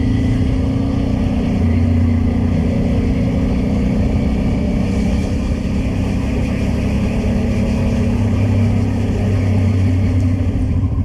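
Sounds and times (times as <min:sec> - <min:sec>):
motorcycle engine running: 0:00.0 - 0:11.0
road noise: 0:00.0 - 0:11.0.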